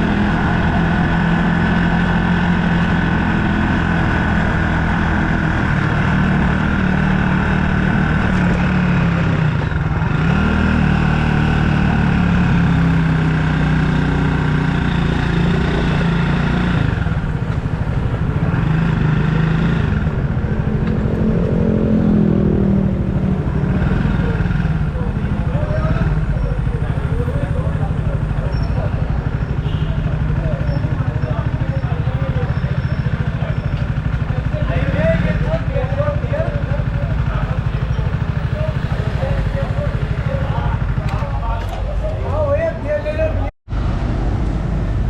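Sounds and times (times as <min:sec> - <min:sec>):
motorbike engine running: 0:00.0 - 0:43.4.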